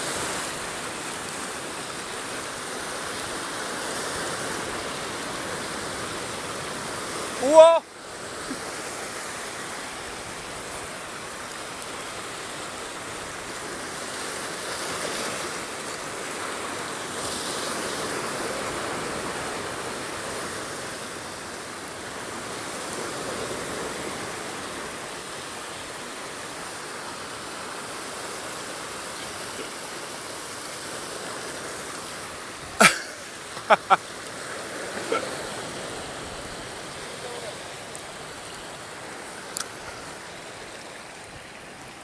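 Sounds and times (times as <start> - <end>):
surf breaking over rocks: 0.0 - 42.0.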